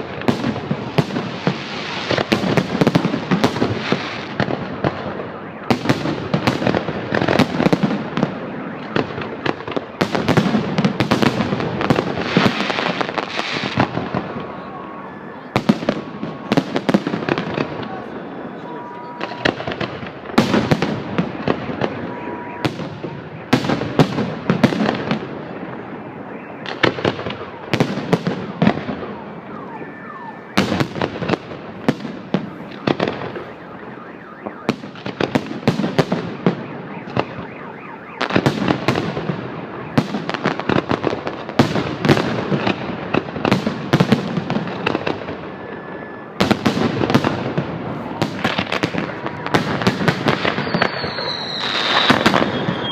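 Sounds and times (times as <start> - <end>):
fireworks crackling: 0.0 - 52.9.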